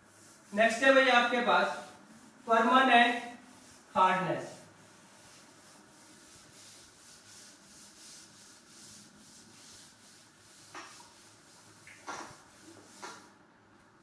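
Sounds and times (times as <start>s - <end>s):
cloth wiping a chalkboard: 0.0s - 14.0s.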